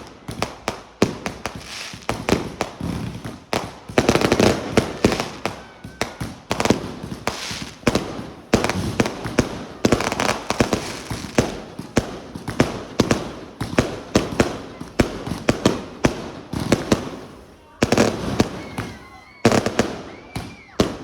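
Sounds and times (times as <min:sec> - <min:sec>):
fireworks hiss: 0:00.0 - 0:20.1
fireworks bangs and crackles: 0:00.0 - 0:21.0.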